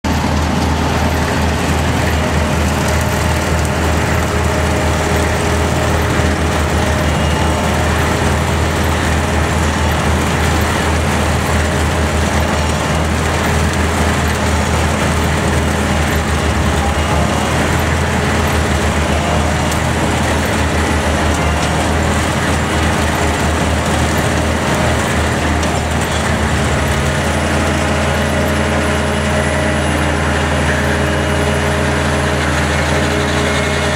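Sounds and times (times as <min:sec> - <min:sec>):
diesel engine humming: 0:00.0 - 0:33.9
harvester machine rushing noise: 0:00.0 - 0:33.9.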